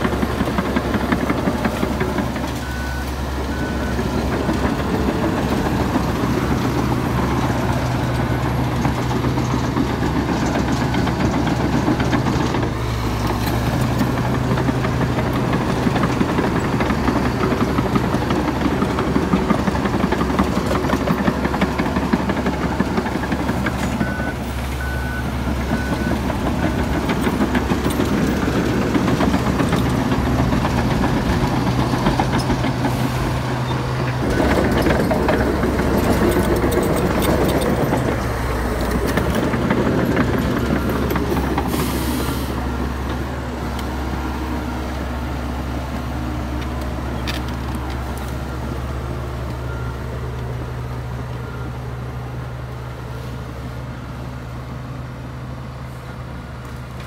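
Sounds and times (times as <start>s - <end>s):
bulldozer tracks clanking: 0.0s - 57.0s
diesel engine running: 0.0s - 57.0s.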